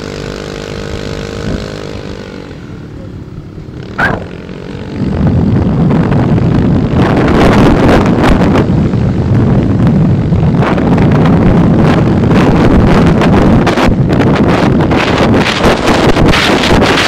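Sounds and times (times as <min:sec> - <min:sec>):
road and engine noise: 0:00.0 - 0:17.0
wind buffeting microphone: 0:03.3 - 0:17.0.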